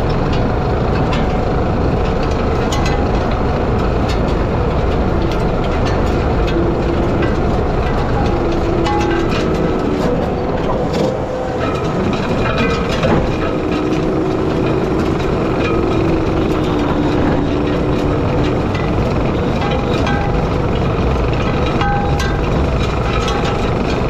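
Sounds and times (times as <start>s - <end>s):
hydraulic whine: 0.0s - 24.0s
power rake churning soil: 0.0s - 24.0s
skid steer engine running: 0.0s - 24.0s.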